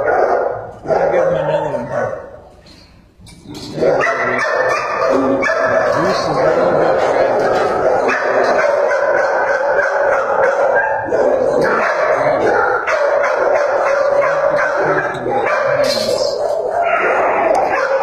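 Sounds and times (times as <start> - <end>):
dogs barking and yipping: 0.0 - 2.4, 3.6 - 18.0.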